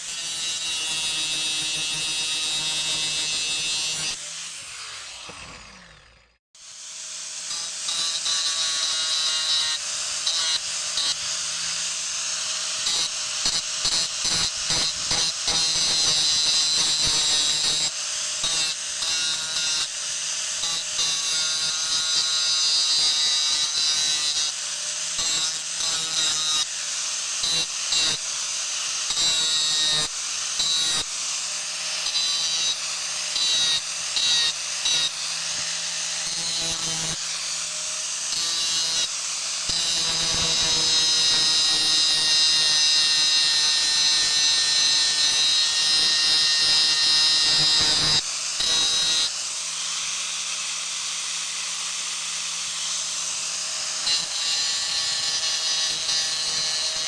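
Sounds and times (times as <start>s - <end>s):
angle grinder grinding metal: 0.0s - 57.0s.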